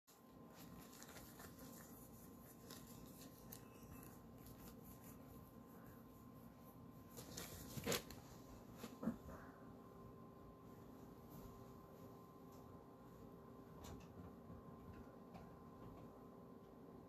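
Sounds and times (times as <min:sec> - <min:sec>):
thin steady hum: 0:00.1 - 0:17.0.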